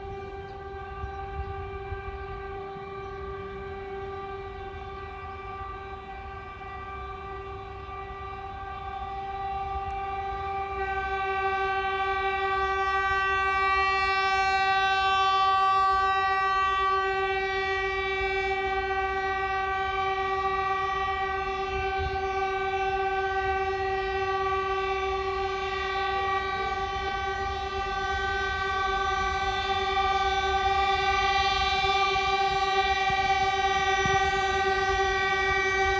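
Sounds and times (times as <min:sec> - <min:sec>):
locomotive horn blast: 0:00.0 - 0:35.9.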